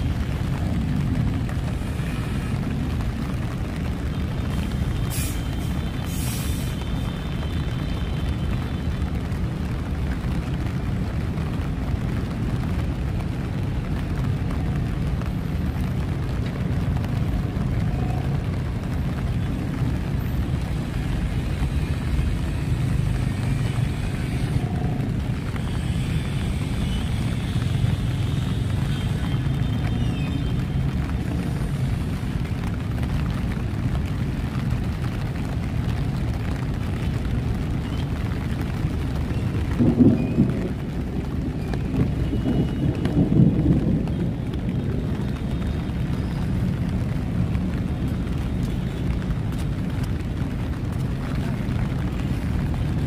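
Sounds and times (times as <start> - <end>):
city traffic rumbling: 0.0 - 53.0
rain hiss on wet road: 0.0 - 53.0.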